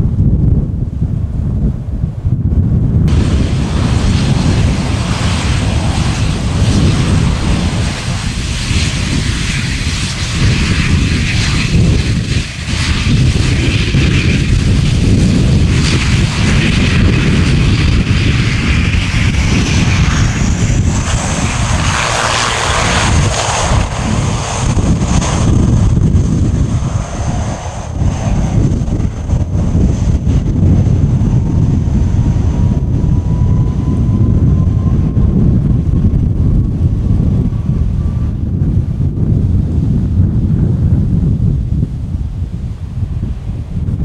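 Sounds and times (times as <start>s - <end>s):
turboprop engines running: 0.0s - 44.0s
high engine whine: 2.2s - 44.0s.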